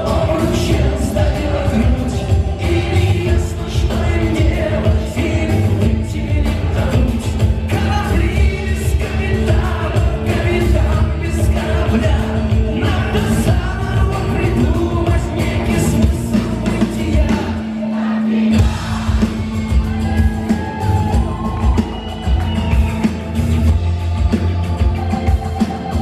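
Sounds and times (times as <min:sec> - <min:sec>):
person singing: 0:00.0 - 0:21.9
drum beats: 0:00.0 - 0:26.0
live rock band playing: 0:00.0 - 0:26.0.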